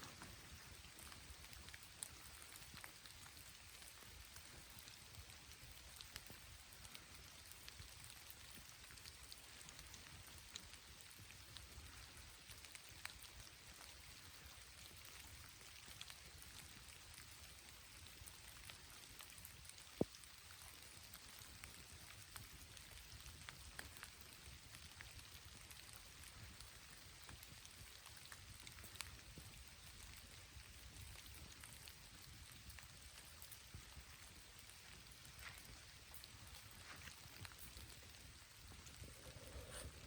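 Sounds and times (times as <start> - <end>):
light rain pattering: 0.0 - 40.0.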